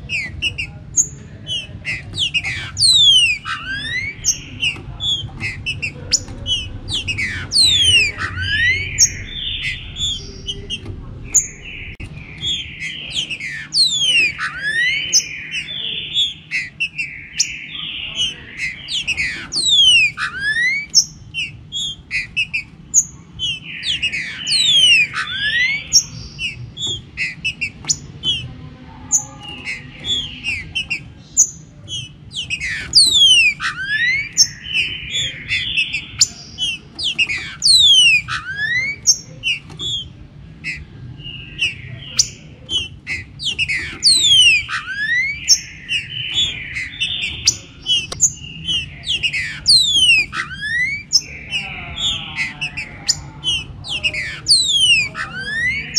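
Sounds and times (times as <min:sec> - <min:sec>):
low background rumble: 0:00.0 - 0:52.4
birds chattering harshly: 0:00.0 - 0:55.9
birds whistling: 0:00.0 - 0:55.9.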